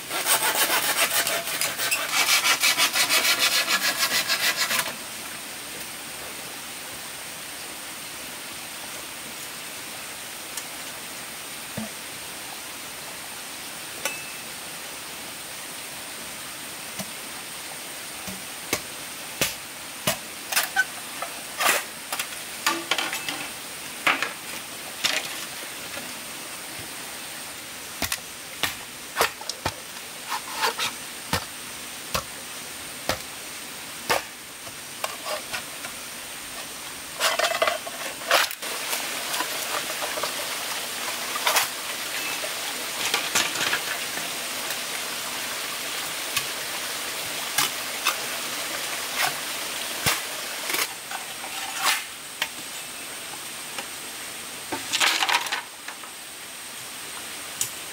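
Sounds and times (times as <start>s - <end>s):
steady hiss: 0.0s - 57.9s.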